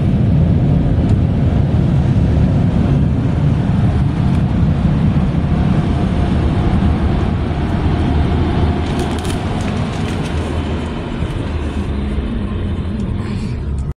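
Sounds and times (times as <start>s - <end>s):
car rumble and road noise: 0.0s - 13.9s.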